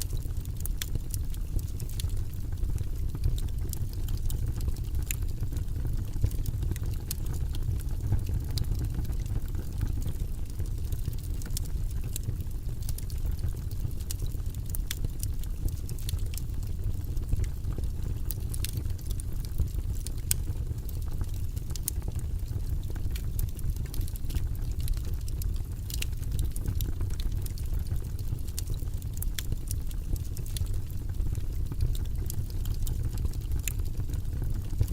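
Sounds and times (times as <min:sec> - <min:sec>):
fire flames rumbling: 0:00.0 - 0:34.9
logs crackling and popping: 0:00.0 - 0:34.9.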